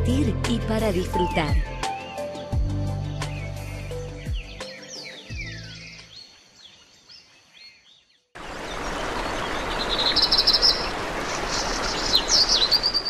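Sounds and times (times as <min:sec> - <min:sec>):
birds calling: 0:01.2 - 0:13.0.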